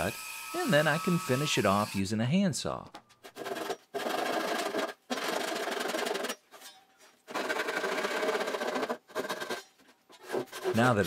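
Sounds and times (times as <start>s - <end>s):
handsaw cutting plywood: 0.0s - 2.0s, 3.2s - 6.4s, 7.2s - 11.0s.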